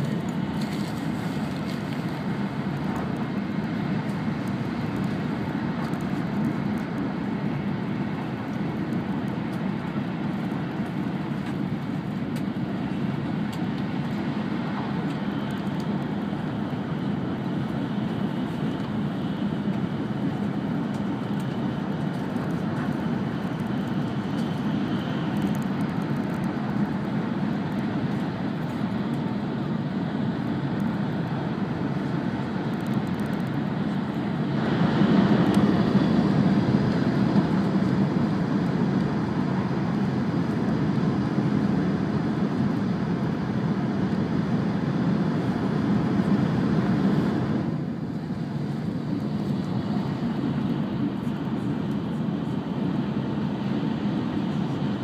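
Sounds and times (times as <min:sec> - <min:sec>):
train cabin low rumble with hiss: 0:00.0 - 0:55.0.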